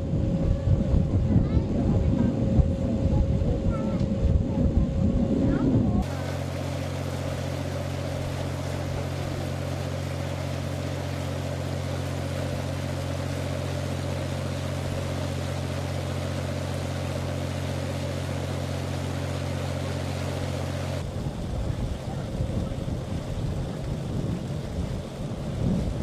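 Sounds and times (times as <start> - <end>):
boat engine humming: 0.0 - 26.0
wind and water hiss: 0.0 - 26.0.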